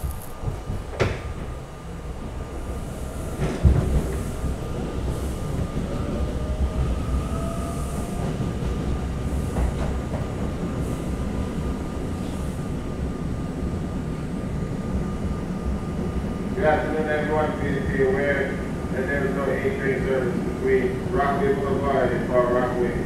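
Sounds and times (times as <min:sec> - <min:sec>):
subway wheels rumbling: 0:00.0 - 0:23.0
train passing alongside: 0:00.0 - 0:23.0.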